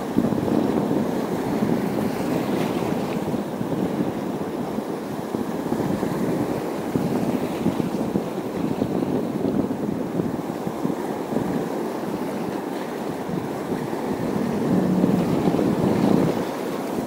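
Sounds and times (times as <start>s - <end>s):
sea waves breaking: 0.0s - 17.0s
wind buffeting microphone: 0.0s - 17.0s.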